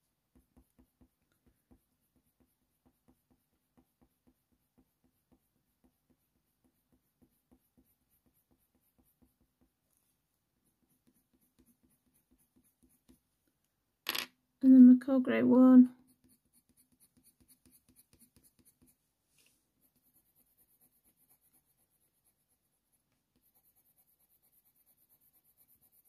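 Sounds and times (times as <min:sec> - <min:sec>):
pencil scratching on paper: 0:00.3 - 0:13.3, 0:16.0 - 0:26.0.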